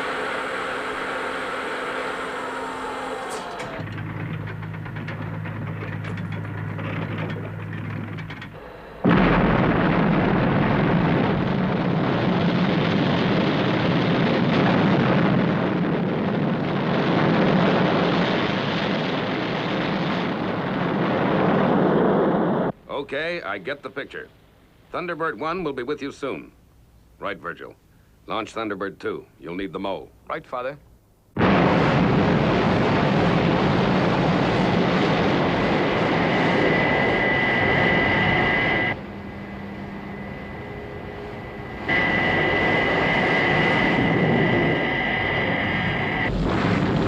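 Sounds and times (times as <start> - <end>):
low steady hum: 0.0 - 20.7, 22.2 - 47.0
loud blast: 0.0 - 22.7, 31.4 - 47.0
fire roaring: 0.0 - 25.0, 31.3 - 47.0.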